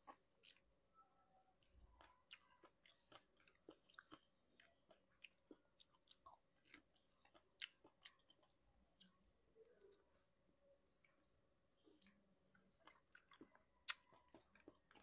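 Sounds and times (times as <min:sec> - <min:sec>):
chewing strawberries: 0:00.0 - 0:00.8, 0:01.5 - 0:15.0.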